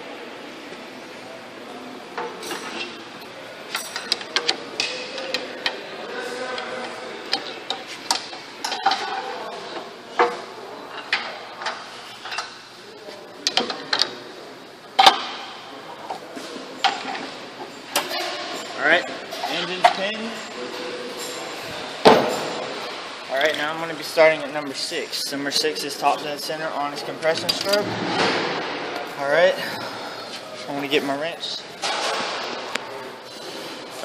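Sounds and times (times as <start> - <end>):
faint voices: 0.0 - 28.0.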